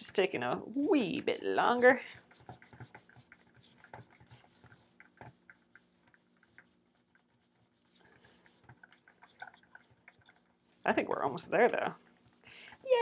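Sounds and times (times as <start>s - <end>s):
cloth scrubbing metal: 0.8s - 13.0s.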